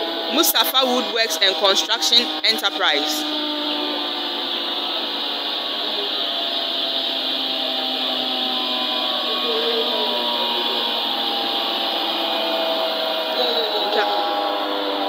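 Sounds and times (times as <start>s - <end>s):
sawmill machinery whirring: 0.0s - 15.0s.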